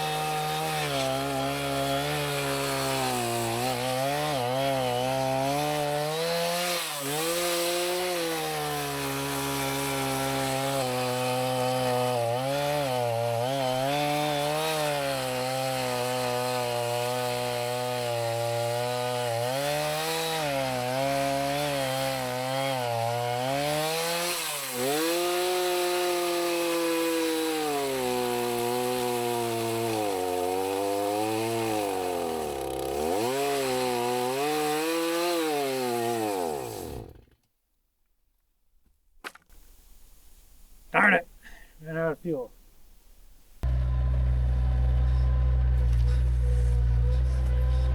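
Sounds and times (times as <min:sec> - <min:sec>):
chainsaw cutting through log: 0:00.0 - 0:37.4, 0:43.6 - 0:47.9.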